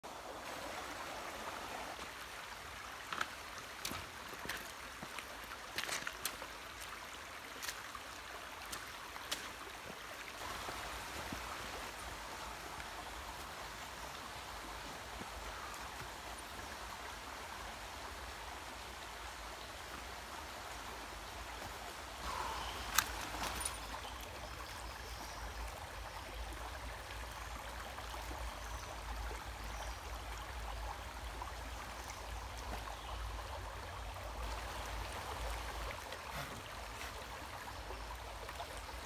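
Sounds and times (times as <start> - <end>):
rocky stream rushing: 0.1 - 39.0.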